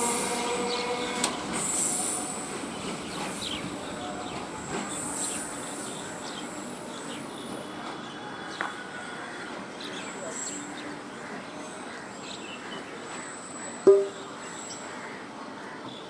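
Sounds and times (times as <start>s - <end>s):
electric train running on rails: 0.0s - 16.0s.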